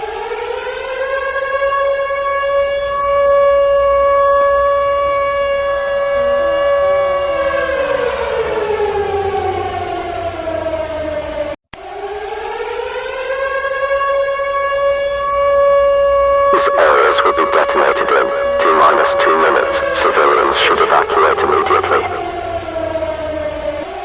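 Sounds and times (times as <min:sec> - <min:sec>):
civil defense siren wailing: 0:00.0 - 0:24.0.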